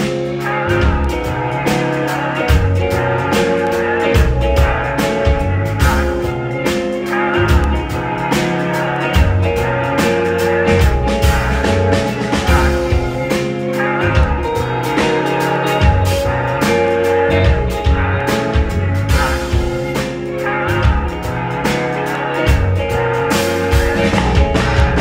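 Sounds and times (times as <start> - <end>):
bass guitar line: 0.0 - 25.0
drums and cymbals: 0.0 - 25.0
electric guitar: 0.0 - 25.0.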